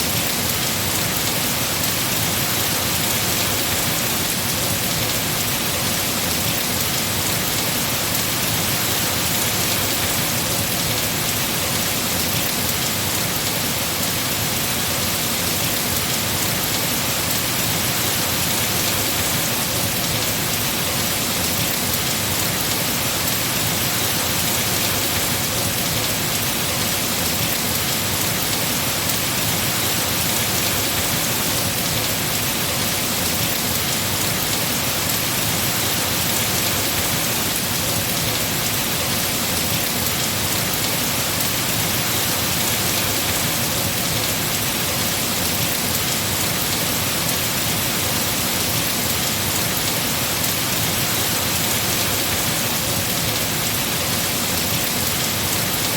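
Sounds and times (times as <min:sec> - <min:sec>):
heavy rain on foliage: 0:00.0 - 0:55.9.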